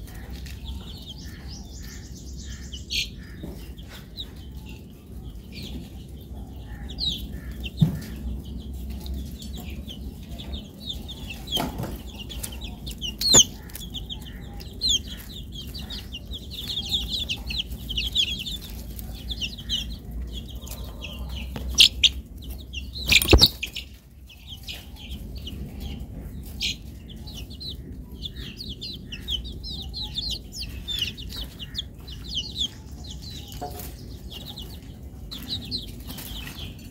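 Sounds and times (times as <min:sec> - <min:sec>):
chicks peeping: 0:00.0 - 0:36.9.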